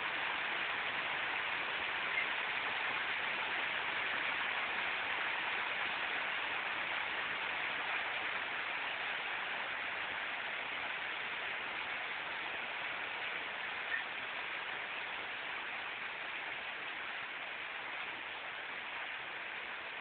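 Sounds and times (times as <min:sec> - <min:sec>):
heavy rain on concrete: 0:00.0 - 0:20.0.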